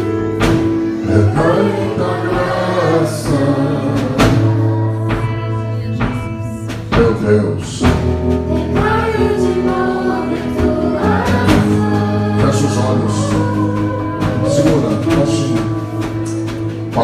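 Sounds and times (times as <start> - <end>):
held chords: 0.0 - 17.0
person singing slow worship song: 0.0 - 17.0.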